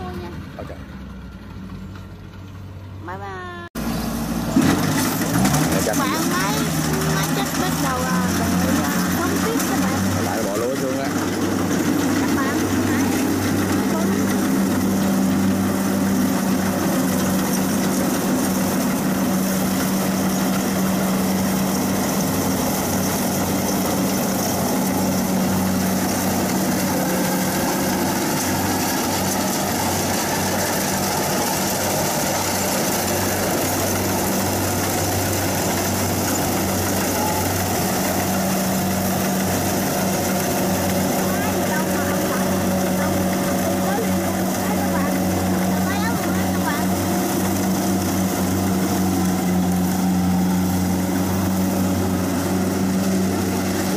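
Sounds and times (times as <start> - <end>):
combine harvester engine running: 0.0 - 53.9.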